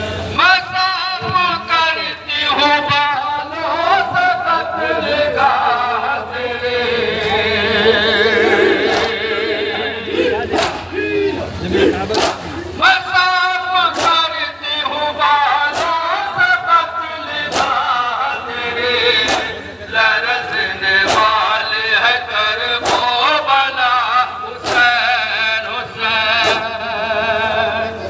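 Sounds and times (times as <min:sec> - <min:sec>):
men chanting together: 0:00.1 - 0:28.0
crowd beating chests: 0:02.8 - 0:27.5.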